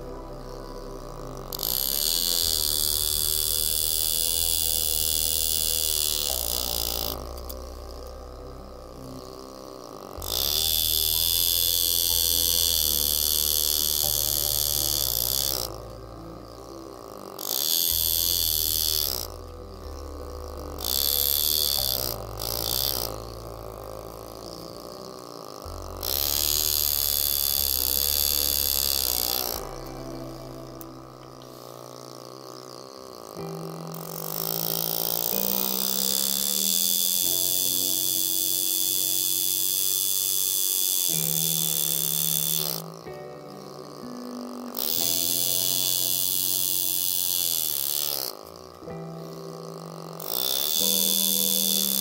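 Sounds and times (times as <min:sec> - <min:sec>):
background music with bass line: 0:00.0 - 0:52.0
engraving tool buzzing hiss: 0:00.0 - 0:52.0.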